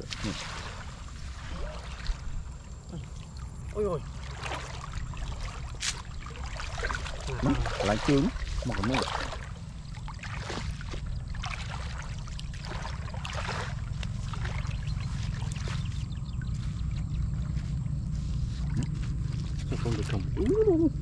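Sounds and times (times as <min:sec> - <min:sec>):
low rumble: 0:00.0 - 0:21.0
water sloshing from wading: 0:00.0 - 0:21.0.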